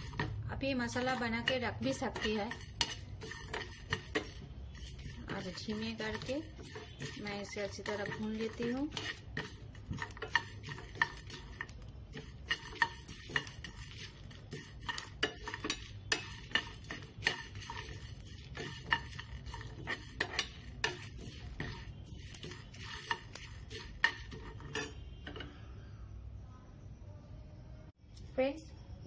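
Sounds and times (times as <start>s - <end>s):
seeds scraping and rattling in pan: 0.0s - 25.5s.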